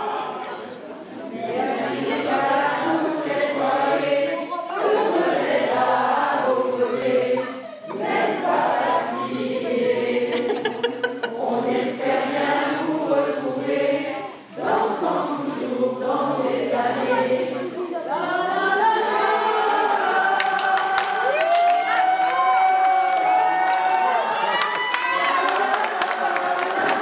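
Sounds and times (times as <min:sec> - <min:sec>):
group singing unaccompanied: 0:00.0 - 0:21.4, 0:25.4 - 0:27.0.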